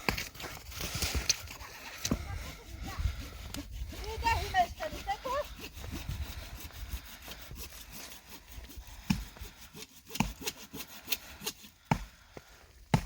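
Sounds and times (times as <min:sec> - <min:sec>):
hand saw cutting wood: 0:00.0 - 0:12.2.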